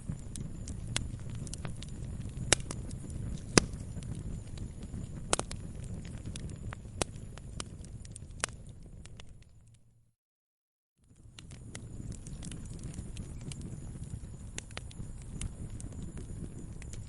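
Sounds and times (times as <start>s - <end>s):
fire pops and snaps: 0.0s - 9.8s, 11.0s - 17.0s
wood fire crackling: 0.0s - 9.9s, 11.0s - 17.0s.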